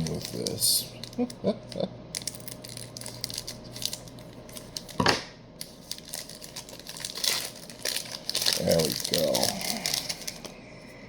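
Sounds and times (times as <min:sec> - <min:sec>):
scissors cutting plastic packaging: 0:00.0 - 0:10.5
plastic rustling: 0:00.0 - 0:10.6.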